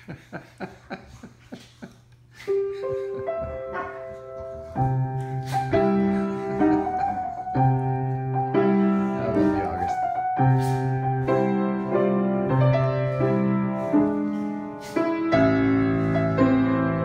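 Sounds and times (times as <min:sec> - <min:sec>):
acoustic piano playing: 0:02.5 - 0:17.0.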